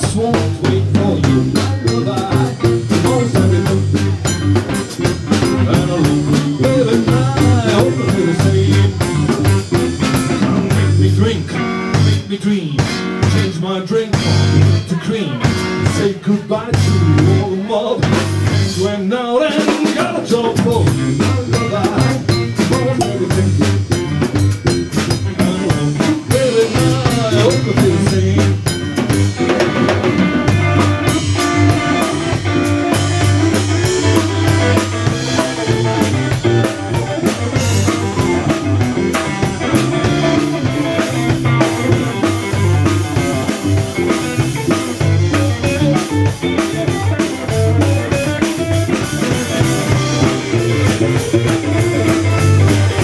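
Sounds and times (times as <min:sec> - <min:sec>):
blues-rock band playing: 0:00.0 - 0:53.0.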